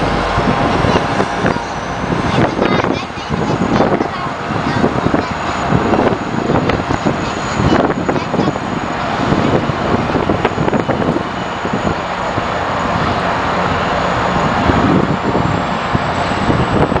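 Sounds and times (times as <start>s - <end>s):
engine and traffic noise: 0.0s - 17.0s
wind buffeting microphone: 0.0s - 17.0s.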